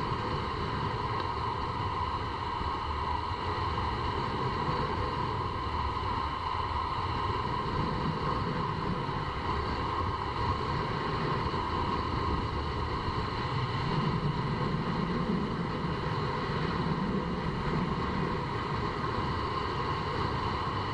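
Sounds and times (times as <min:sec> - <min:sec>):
longboard wheels rolling on asphalt: 0:00.0 - 0:20.9
wind rushing over microphone: 0:00.0 - 0:20.9.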